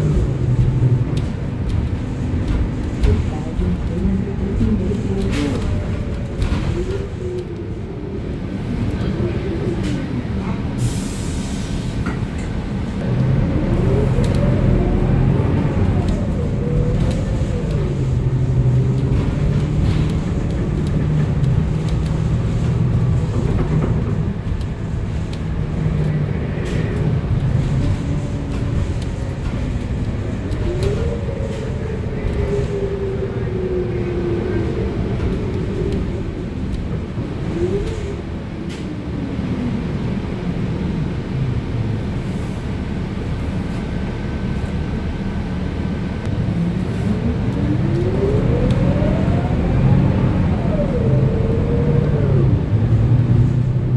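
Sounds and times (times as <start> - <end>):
bus engine and drivetrain: 0.0 - 53.9.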